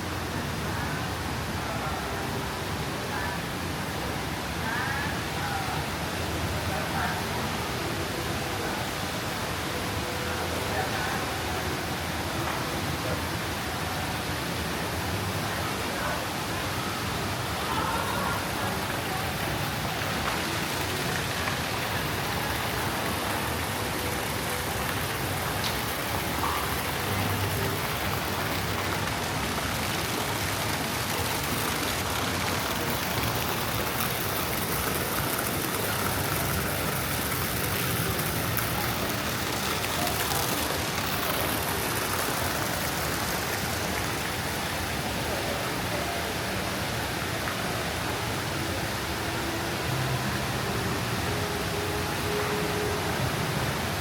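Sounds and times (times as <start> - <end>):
falling water rushing: 0.0 - 54.0.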